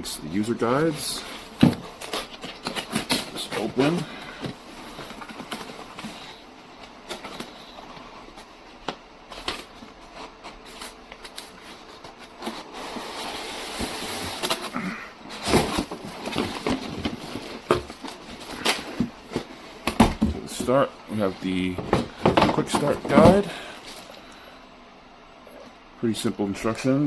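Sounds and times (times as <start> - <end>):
cardboard packaging rustling: 0.1 - 24.6.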